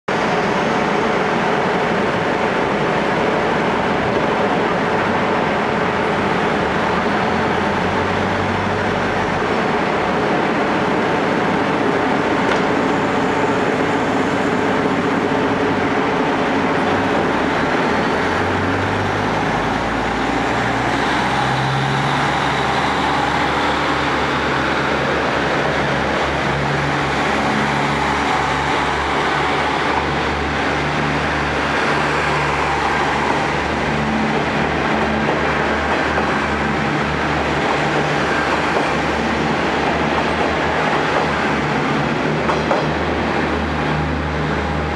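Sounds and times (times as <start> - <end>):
diesel train engines: 0.1 - 44.9.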